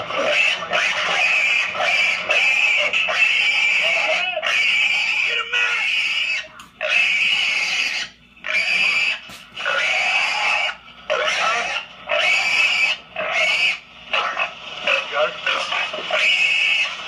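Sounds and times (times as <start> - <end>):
hog squealing: 0.1 - 14.5, 15.5 - 17.0.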